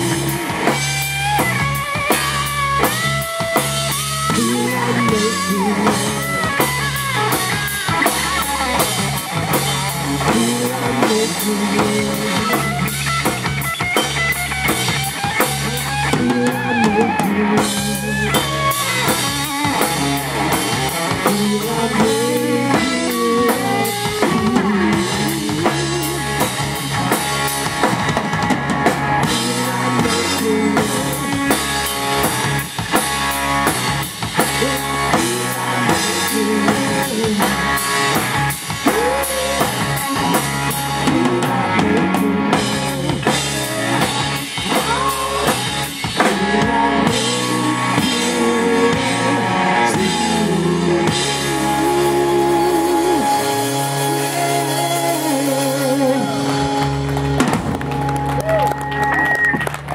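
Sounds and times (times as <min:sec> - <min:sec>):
bass guitar: 0:00.0 - 0:59.9
drum kit: 0:00.0 - 0:59.9
electric guitar lead line: 0:00.0 - 0:59.9.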